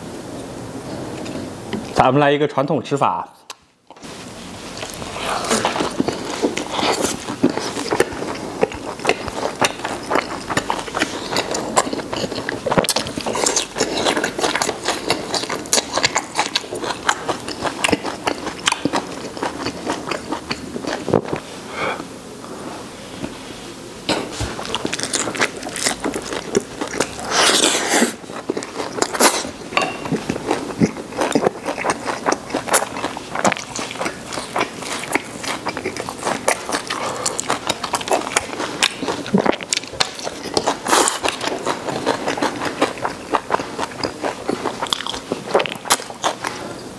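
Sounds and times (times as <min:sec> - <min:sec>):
close chewing and mouth smacks: 0:04.7 - 0:21.5, 0:24.2 - 0:46.9.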